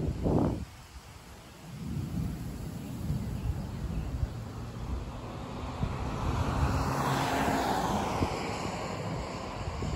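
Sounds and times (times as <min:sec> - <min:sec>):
distant thunder rumble: 0:01.6 - 0:09.9.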